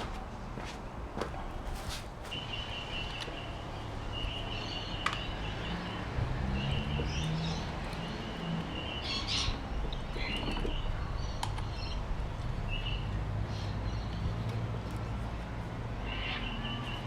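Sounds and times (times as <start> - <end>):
birds chirping: 2.3 - 17.0.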